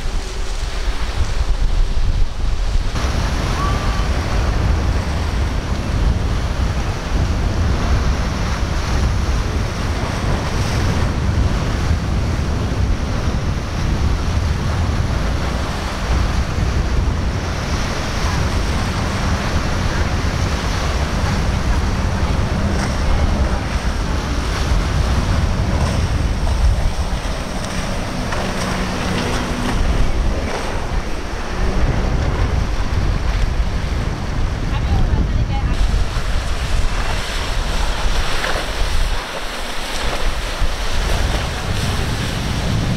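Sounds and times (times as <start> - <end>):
waves breaking: 0.0 - 42.9
wind rumbling on microphone: 0.0 - 42.9.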